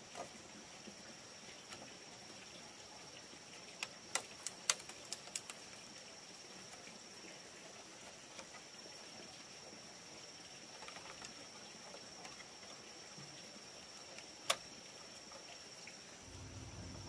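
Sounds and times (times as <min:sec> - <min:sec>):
high insect whine: 0:00.0 - 0:17.0.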